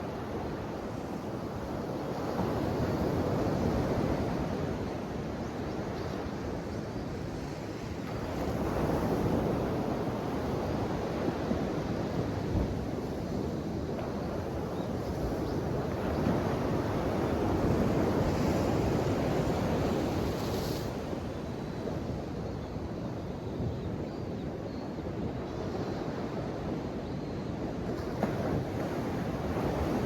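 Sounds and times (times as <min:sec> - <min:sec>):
ocean waves washing on shore: 0:00.0 - 0:30.0.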